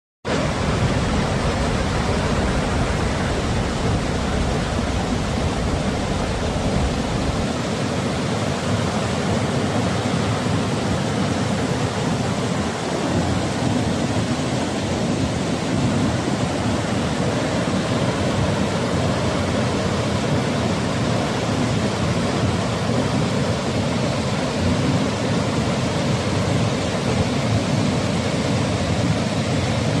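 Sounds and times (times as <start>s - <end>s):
waterfall rushing: 0.3s - 30.0s.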